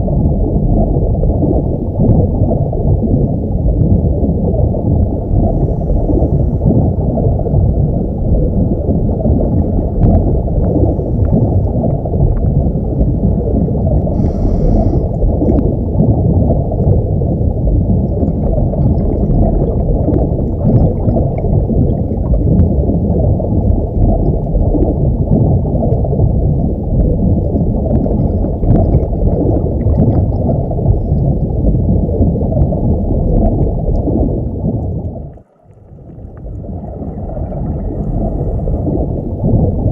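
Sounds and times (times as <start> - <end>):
muffled underwater water rumble: 0.0 - 39.9.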